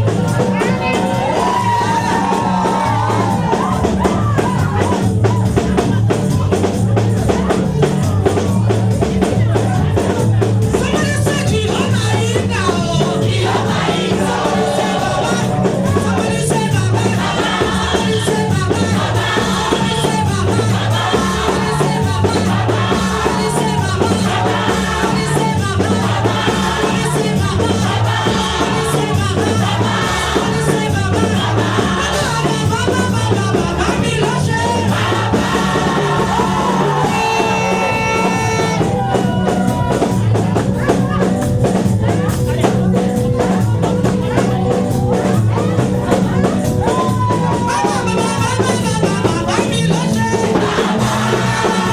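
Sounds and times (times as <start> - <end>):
band accompaniment with bass line: 0.0 - 51.9
gospel choir singing: 0.0 - 51.9.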